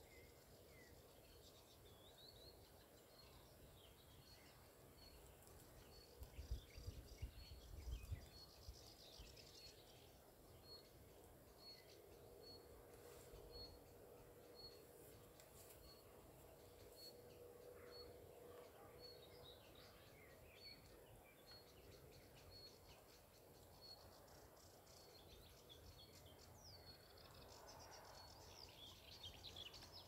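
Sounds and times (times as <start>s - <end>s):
birds chirping and twittering: 0.0s - 30.0s.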